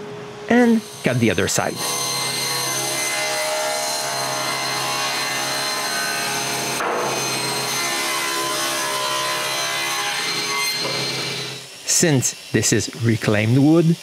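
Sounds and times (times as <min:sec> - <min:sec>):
table saw cutting wood: 0:00.7 - 0:14.0.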